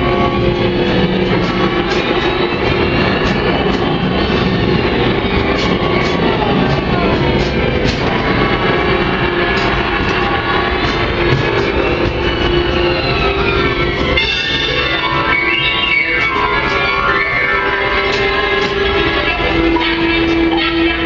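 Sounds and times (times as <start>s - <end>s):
background music: 0.0s - 21.0s
steam train running on track: 0.0s - 21.0s.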